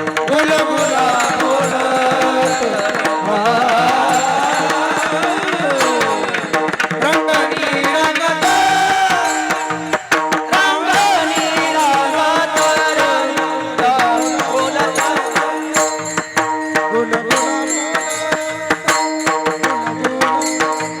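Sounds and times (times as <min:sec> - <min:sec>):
rapid hand drumming: 0:00.0 - 0:21.0
steady held tones: 0:00.0 - 0:21.0.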